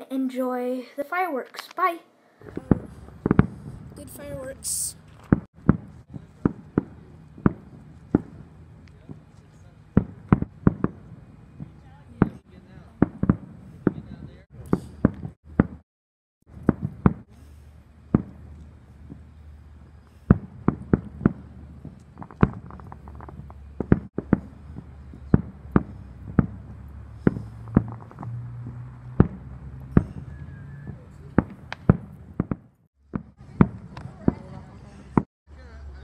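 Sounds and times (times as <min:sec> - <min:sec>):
fireworks bangs and pops: 0:02.4 - 0:15.8, 0:16.5 - 0:35.3.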